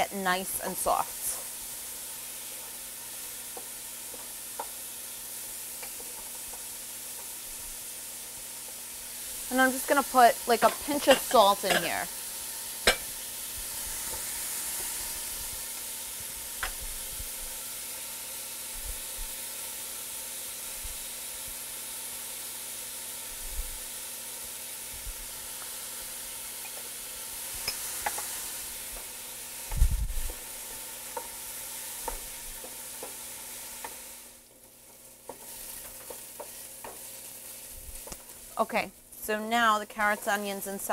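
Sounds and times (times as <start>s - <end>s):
vegetables sizzling in oil: 0.0s - 40.9s.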